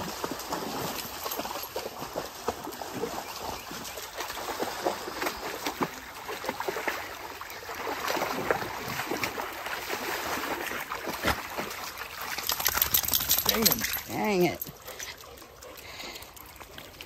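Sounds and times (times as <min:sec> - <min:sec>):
dog splashing in water: 0:00.0 - 0:17.0
stream flowing: 0:00.0 - 0:17.0.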